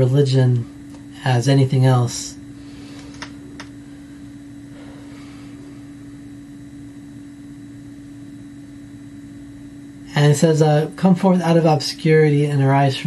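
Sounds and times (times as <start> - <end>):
steady tone hum: 0.0 - 13.0.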